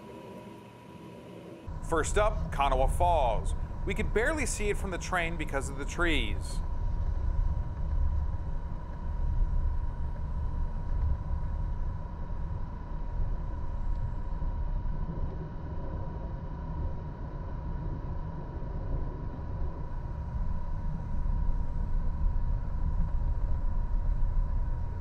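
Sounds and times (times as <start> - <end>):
thin steady whine: 0.0 - 25.0.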